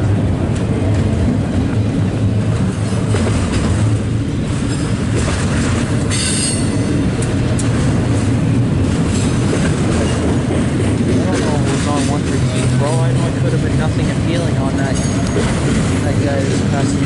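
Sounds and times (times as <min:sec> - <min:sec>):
freight train wheels rumbling: 0:00.0 - 0:17.0
clicks of train wheels: 0:02.5 - 0:17.0.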